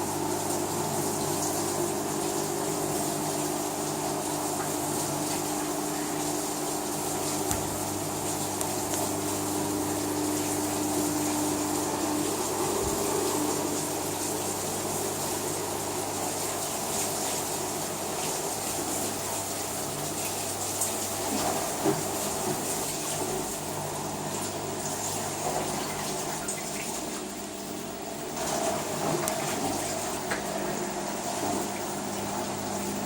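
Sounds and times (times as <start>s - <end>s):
washing machine running water: 0.0s - 33.0s.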